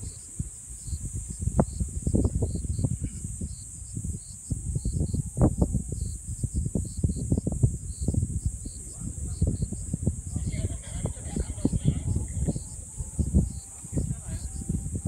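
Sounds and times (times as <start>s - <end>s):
insects chirping: 0.0s - 15.0s
wind buffeting microphone: 0.0s - 15.0s.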